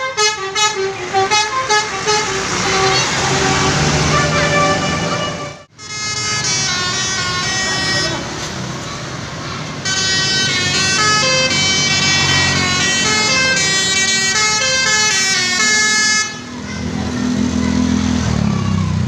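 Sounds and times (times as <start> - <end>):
multi-tone musical vehicle horn: 0.0 - 8.5, 9.8 - 16.7
vehicle engine drone: 0.0 - 19.0.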